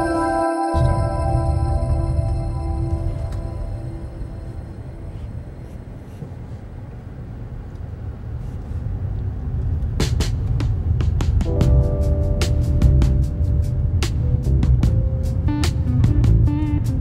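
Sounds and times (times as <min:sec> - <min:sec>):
car driving rumble from inside: 0:02.2 - 0:16.5.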